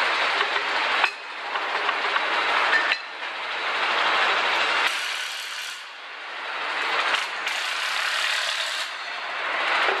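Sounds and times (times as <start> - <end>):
assembly line machinery noise: 0.0 - 10.0.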